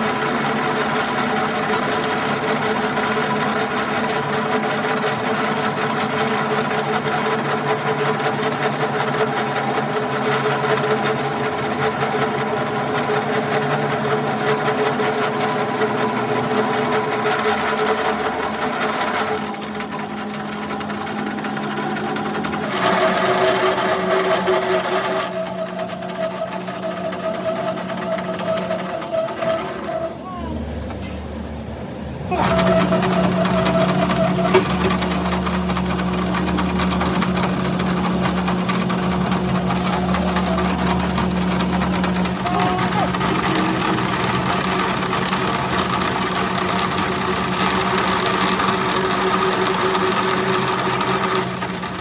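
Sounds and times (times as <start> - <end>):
motor-driven machine humming: 0.0 - 52.0.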